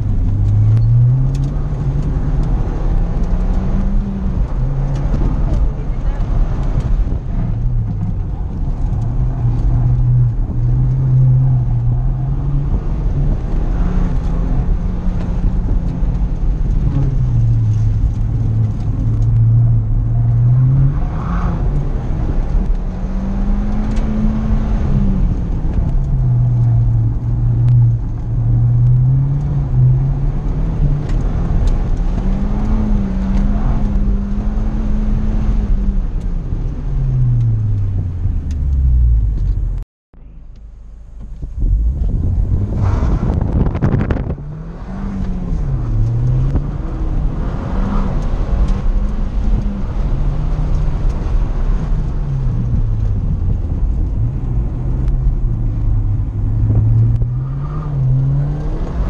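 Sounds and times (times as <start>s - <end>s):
car engine revving: 0.0s - 59.0s
road and wind rumble: 0.0s - 59.0s.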